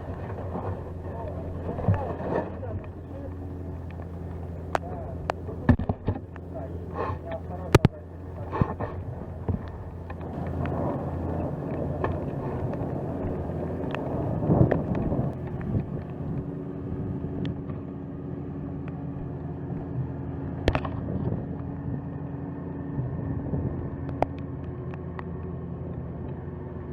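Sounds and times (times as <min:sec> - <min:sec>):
vehicle engine humming: 0:00.0 - 0:26.9.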